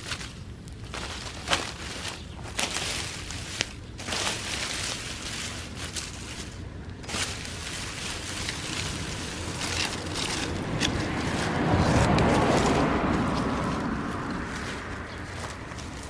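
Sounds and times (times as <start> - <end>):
grass fire burning: 0.0 - 16.0.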